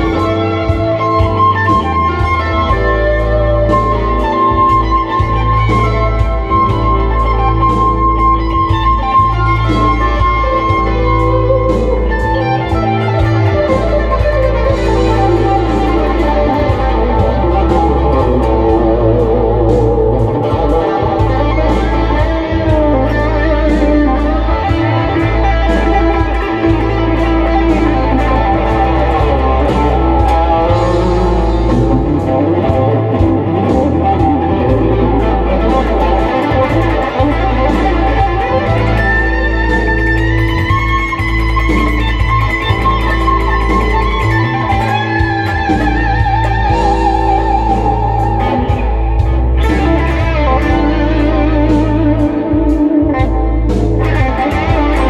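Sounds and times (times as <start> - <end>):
backing track drums and bass: 0.0 - 55.0
electric guitar lead: 0.0 - 55.0.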